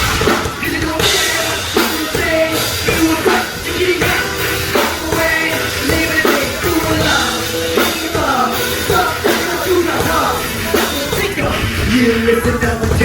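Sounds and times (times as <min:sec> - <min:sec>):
drum kit beat: 0:00.0 - 0:13.0
live rock band playing: 0:00.0 - 0:13.0
person singing: 0:00.2 - 0:13.0.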